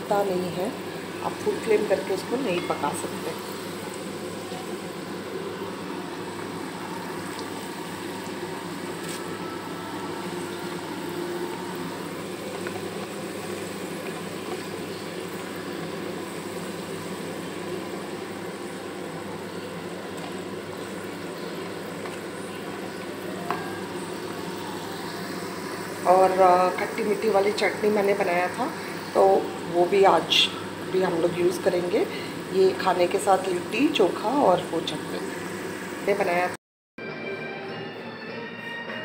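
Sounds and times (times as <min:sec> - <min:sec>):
dough balls deep-frying in oil: 0:00.0 - 0:36.6.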